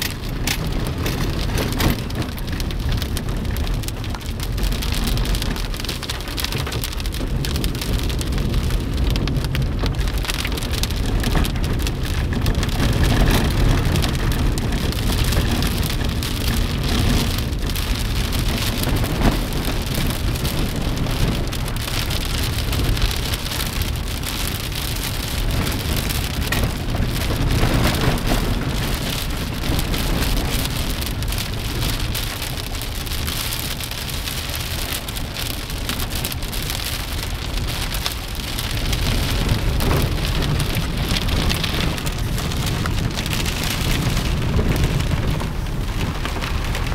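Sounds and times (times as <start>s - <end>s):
heavy rain falling: 0.0s - 46.9s
low rumble: 0.0s - 46.9s.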